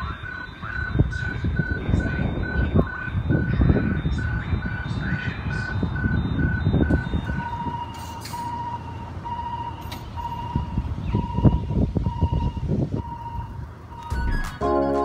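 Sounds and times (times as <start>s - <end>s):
level crossing alarm beeping: 0.0s - 15.0s.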